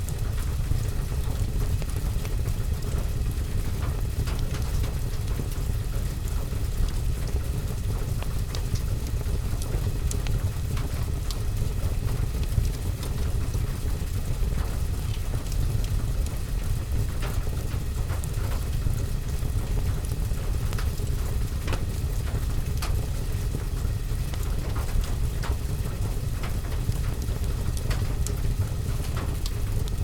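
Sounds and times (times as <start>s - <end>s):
rain on roof and window: 0.0s - 30.0s
wood fire crackling: 0.0s - 30.0s.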